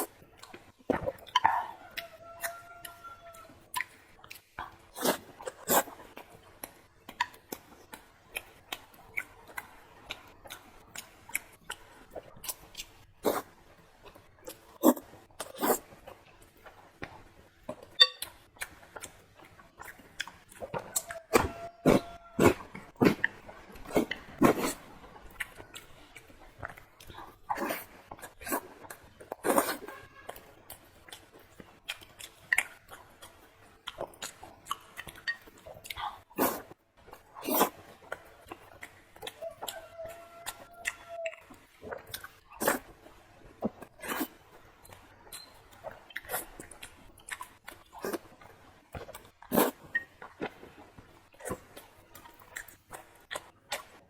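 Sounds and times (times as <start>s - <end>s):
wet chewing mouth smacks: 3.7s - 13.5s, 14.1s - 54.0s.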